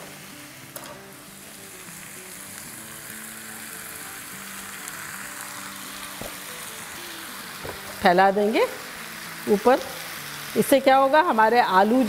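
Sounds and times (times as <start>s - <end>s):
background music: 0.0s - 12.0s
potatoes sizzling in a pan: 0.0s - 12.0s.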